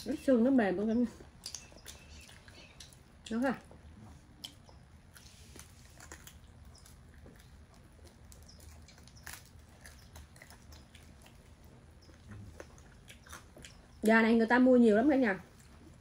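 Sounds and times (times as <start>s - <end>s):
chewing with mouth clicks: 1.1s - 14.3s, 15.4s - 16.0s.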